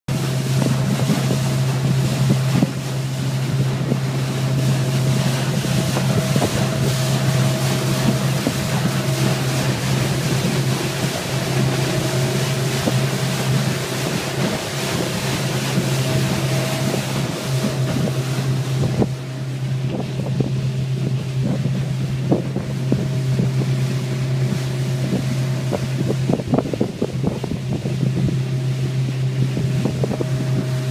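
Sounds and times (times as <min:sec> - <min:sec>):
outboard motor humming: 0:00.1 - 0:30.9
water rushing past hull: 0:00.1 - 0:30.9
wind on microphone: 0:00.1 - 0:30.9.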